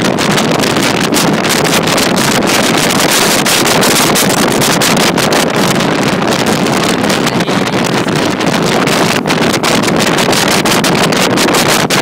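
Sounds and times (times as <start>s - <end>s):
outboard engine running: 0.0s - 12.0s
water rushing from wake: 0.0s - 12.0s
wind buffeting microphone: 0.0s - 12.0s.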